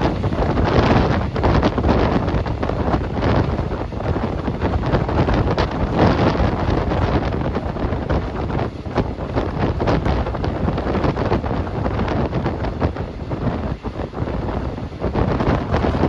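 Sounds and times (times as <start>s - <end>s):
train running: 0.0s - 16.0s
wind buffeting microphone: 0.0s - 16.0s.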